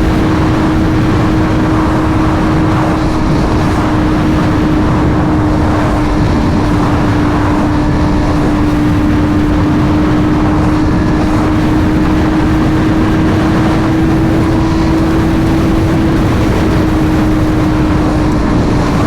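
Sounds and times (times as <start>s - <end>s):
motorcycle engine droning: 0.0s - 19.0s
wind rumble on microphone: 0.0s - 19.0s.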